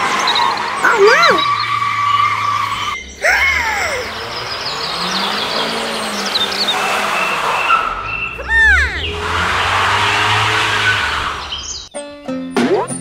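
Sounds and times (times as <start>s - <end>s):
tyres screeching: 0.0s - 11.9s.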